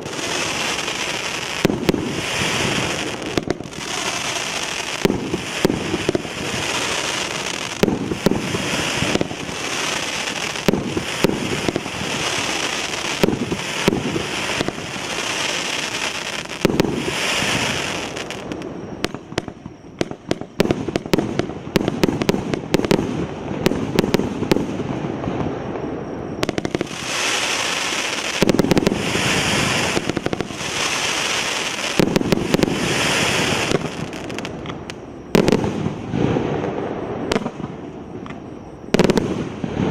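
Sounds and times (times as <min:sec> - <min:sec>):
sharp crackling pops: 0:00.0 - 0:25.5, 0:26.3 - 0:39.9
firework launches and bursts: 0:00.0 - 0:37.9.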